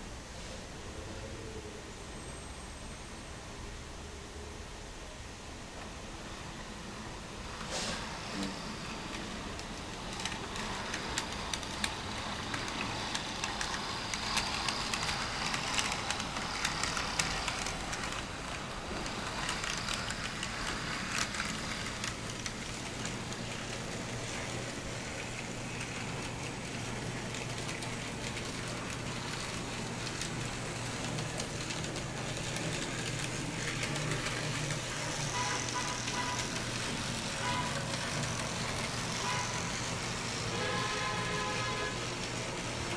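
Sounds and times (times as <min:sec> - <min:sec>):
small wheels clicking over rail joints: 0:07.5 - 0:42.9.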